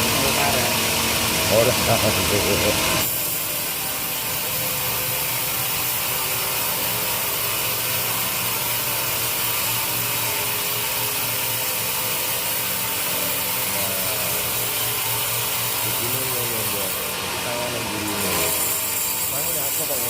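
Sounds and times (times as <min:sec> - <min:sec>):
saw cutting wood: 0:00.0 - 0:20.0.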